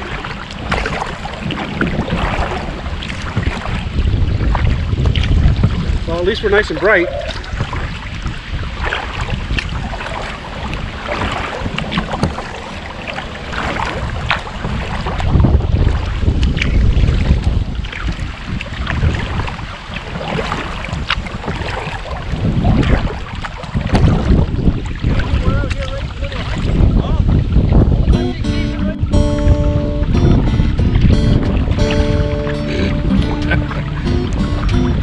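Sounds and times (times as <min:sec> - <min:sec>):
water splashing against kayak: 0:00.0 - 0:35.0
wind buffeting microphone: 0:00.0 - 0:35.0.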